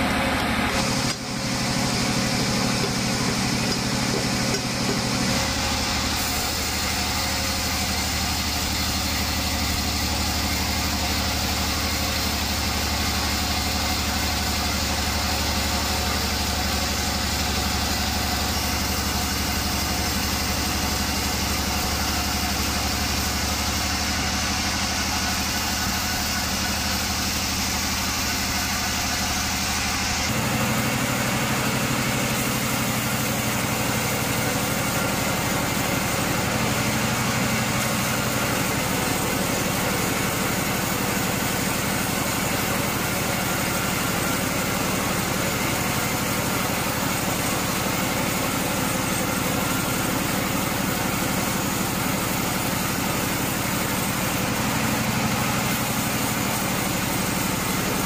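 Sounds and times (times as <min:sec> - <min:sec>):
saw blade hissing through log: 0:00.0 - 0:58.0
sawmill machine hum: 0:00.0 - 0:58.0.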